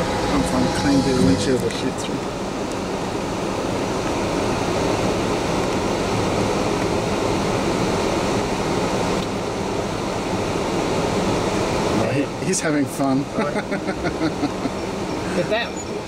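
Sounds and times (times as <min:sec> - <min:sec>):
low engine hum: 0:00.0 - 0:16.0
steady rushing noise: 0:00.0 - 0:16.0.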